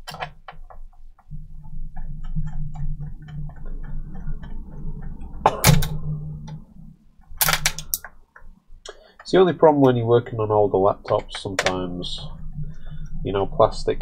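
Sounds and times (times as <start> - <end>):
low hum: 1.2 - 14.0.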